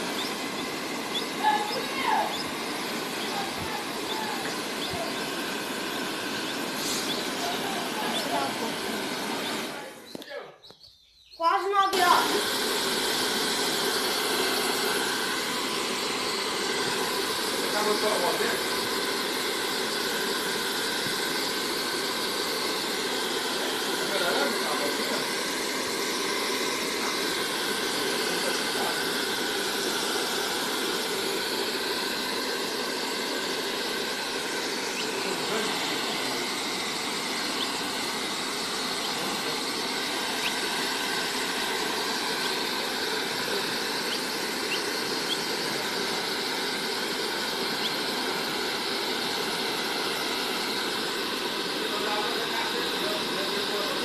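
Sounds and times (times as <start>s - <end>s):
hair dryer running: 0.0s - 10.2s, 11.6s - 54.0s.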